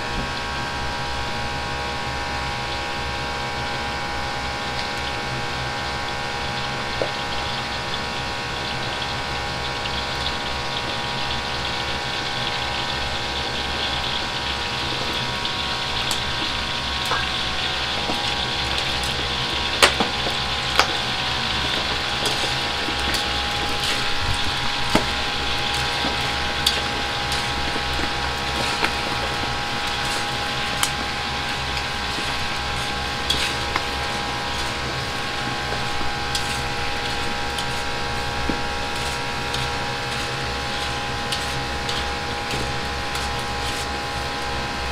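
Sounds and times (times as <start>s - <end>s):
oil sizzling in a wok: 0.0s - 44.9s
steady mechanical hum: 0.0s - 44.9s.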